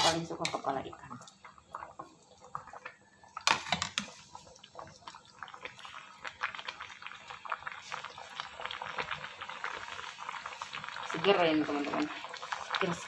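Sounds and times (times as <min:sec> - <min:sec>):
soup bubbles popping: 0:00.2 - 0:13.0.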